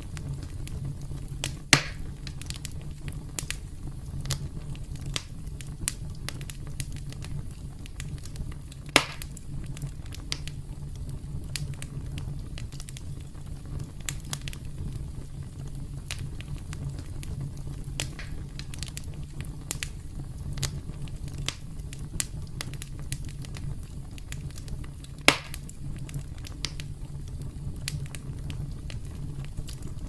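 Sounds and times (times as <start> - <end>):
campfire crackling: 0.0 - 30.0
loud pops from fire: 0.0 - 30.0.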